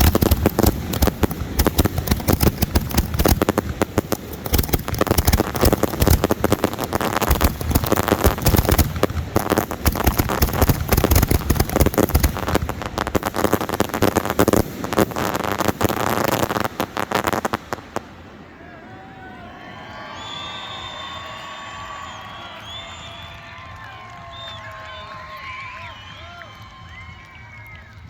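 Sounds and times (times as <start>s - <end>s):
fireworks bangs and crackling: 0.0s - 18.5s, 21.6s - 28.0s.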